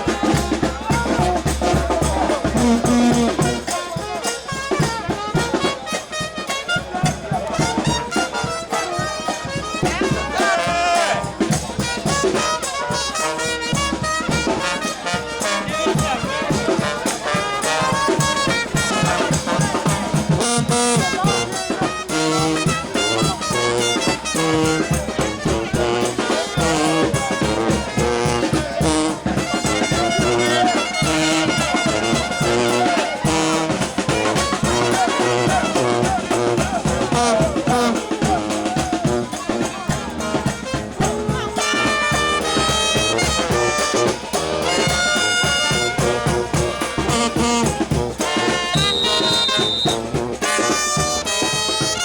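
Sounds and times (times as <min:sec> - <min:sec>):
brass band playing: 0:00.0 - 0:52.0
steady drum beat: 0:00.0 - 0:52.0.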